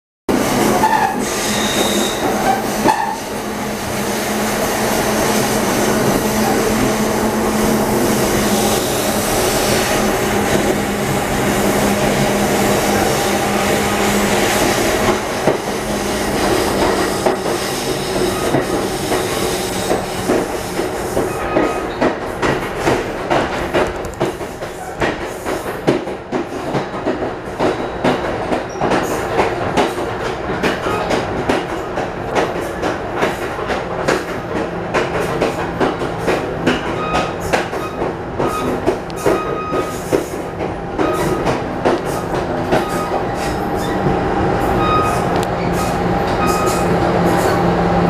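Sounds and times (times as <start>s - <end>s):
train wheels rumbling on rail: 0.3s - 48.0s.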